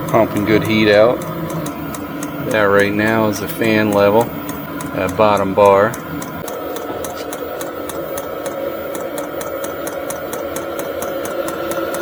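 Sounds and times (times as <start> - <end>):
air heater blower fan hum: 0.0 - 12.0
fast even ticking: 0.0 - 12.0.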